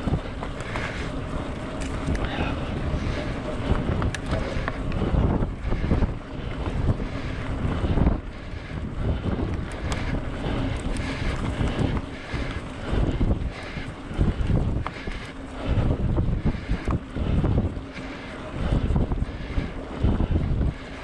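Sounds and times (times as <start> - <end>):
light clicks and rattles: 0.0 - 8.2, 9.2 - 19.6
wind buffeting microphone: 0.0 - 21.0.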